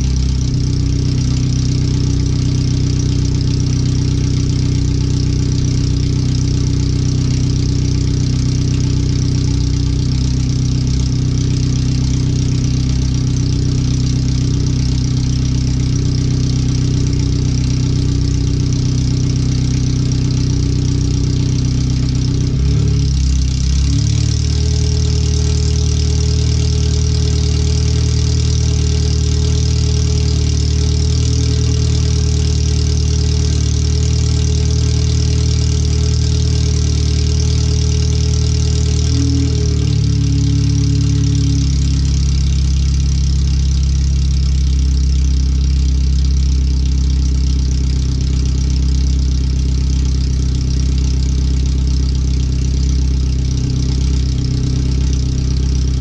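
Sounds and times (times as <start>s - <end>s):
loud car engine idling: 0.0s - 56.0s.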